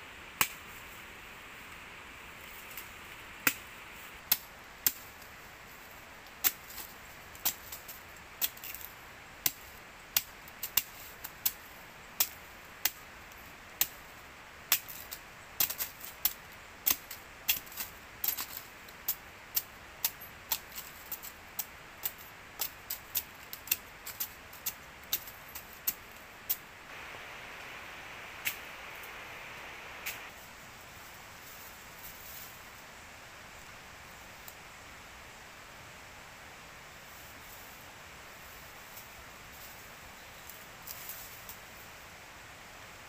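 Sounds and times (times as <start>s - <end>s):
faint steady hiss: 0.0s - 43.0s.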